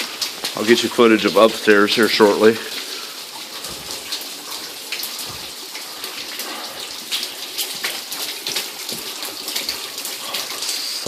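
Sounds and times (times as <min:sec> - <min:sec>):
water dripping: 0:00.0 - 0:11.0
water running: 0:00.0 - 0:11.0
water splashing: 0:00.0 - 0:11.0.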